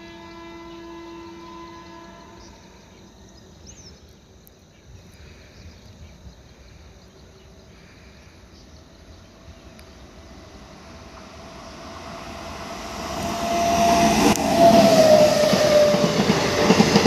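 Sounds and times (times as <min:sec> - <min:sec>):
distant electric train rumble: 0:00.0 - 0:04.3, 0:04.9 - 0:17.0.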